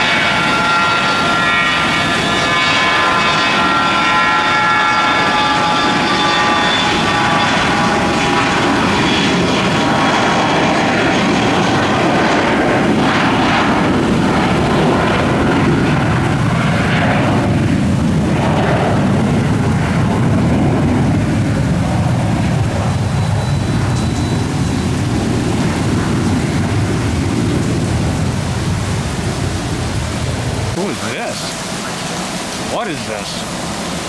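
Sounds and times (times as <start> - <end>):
high engine whine: 0.0 - 34.0
jet airliner engines rushing: 0.0 - 34.0.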